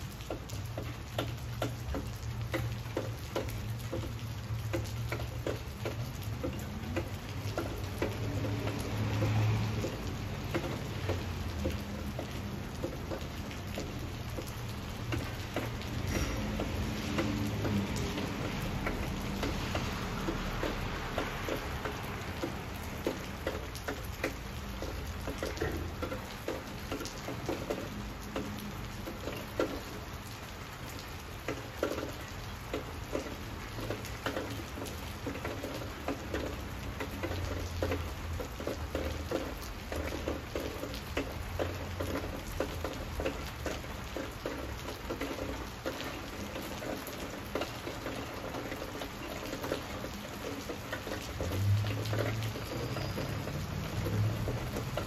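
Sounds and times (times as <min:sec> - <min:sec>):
rain falling on foliage: 0:00.0 - 0:55.0.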